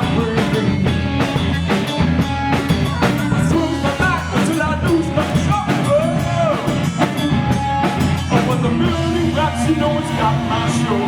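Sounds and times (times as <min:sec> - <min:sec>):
high sliding melodic line: 0:00.0 - 0:11.0
rock band playing: 0:00.0 - 0:11.0.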